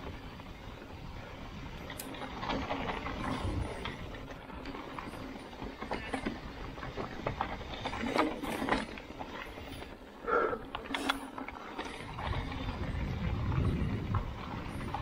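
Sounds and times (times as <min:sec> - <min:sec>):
bike clattering over rocks: 0:01.8 - 0:10.0, 0:10.7 - 0:15.0.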